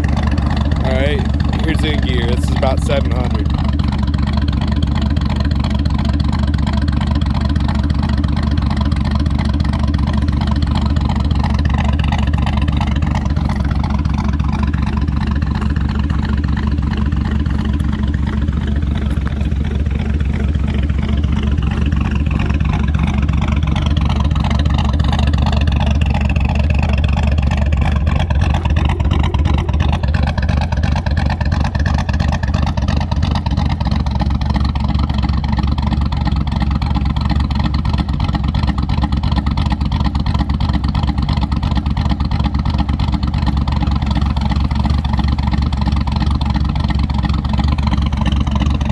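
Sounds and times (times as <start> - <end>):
lopey truck engine idling: 0.0 - 48.9.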